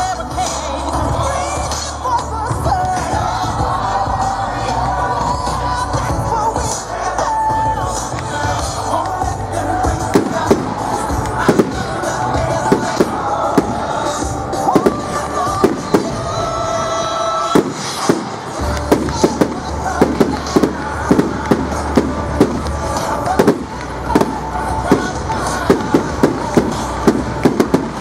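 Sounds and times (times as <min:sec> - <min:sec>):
music playing: 0:00.0 - 0:28.0.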